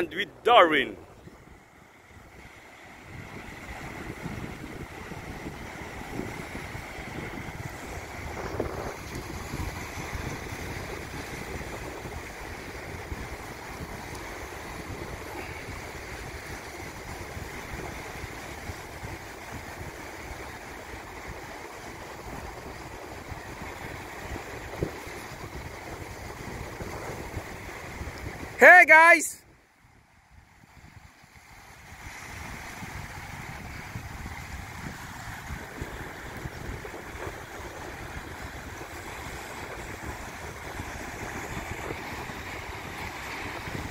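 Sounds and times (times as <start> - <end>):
wind buffeting microphone: 0.0 - 28.6, 29.8 - 43.9
sea surf washing against shore: 0.0 - 43.9.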